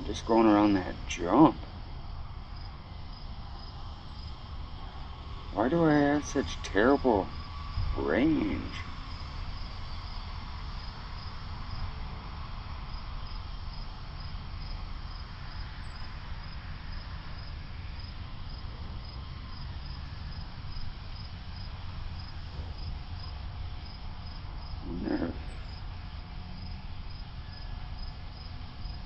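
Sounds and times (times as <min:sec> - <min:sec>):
cricket chirping: 0:00.0 - 0:29.0
low steady rumble: 0:00.0 - 0:29.0.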